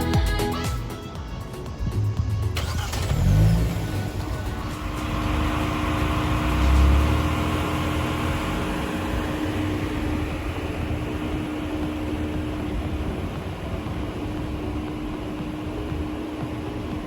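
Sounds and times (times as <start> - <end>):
car engine rumbling: 1.3 - 17.0.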